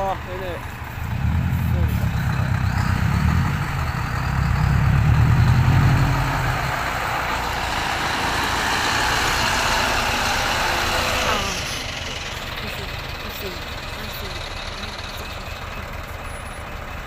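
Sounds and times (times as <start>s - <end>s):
road noise: 0.0s - 17.0s
truck engine low drone: 0.0s - 17.0s.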